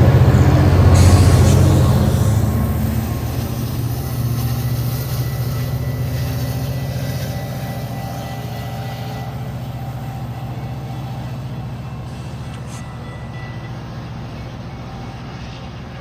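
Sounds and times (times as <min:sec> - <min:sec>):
diesel train rumbling past: 0:00.0 - 0:16.0.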